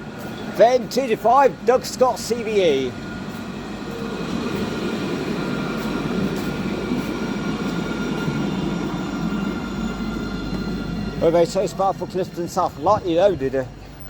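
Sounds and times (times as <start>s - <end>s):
faint high whining tones: 0.0s - 14.0s
tram rail rumble: 0.0s - 14.0s.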